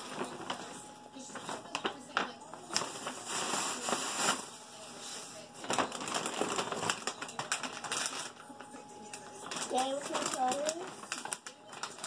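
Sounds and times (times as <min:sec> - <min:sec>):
tissue paper crinkling and rustling: 0:00.0 - 0:12.0.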